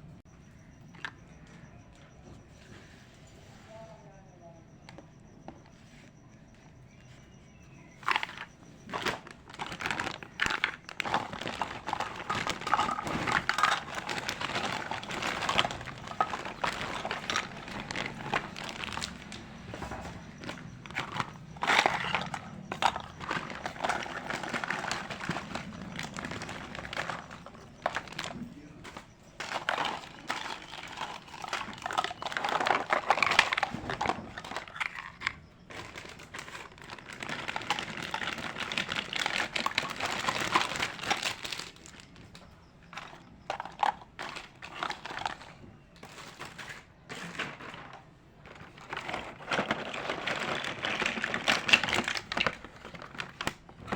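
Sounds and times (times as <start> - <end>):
plastic packaging crinkling: 8.0 - 53.9.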